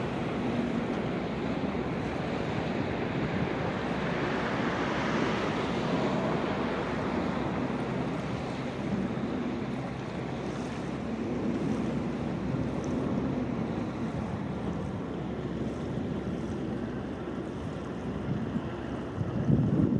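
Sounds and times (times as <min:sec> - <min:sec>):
sea waves washing ashore: 0:00.0 - 0:19.9
wind: 0:00.0 - 0:19.9.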